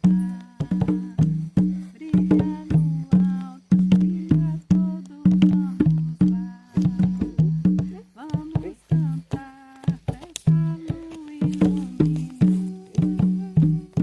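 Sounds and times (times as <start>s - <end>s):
berimbau playing: 0.0s - 14.0s
sharp clicking percussion: 0.0s - 14.0s.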